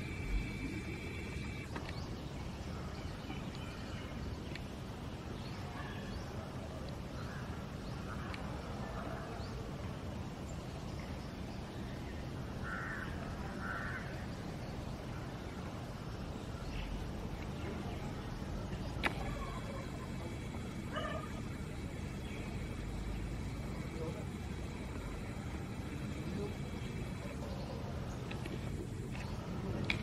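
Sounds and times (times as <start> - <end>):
distant bird calls: 0.0 - 6.4, 10.9 - 30.0
outdoor hiss and low rumble: 0.0 - 30.0.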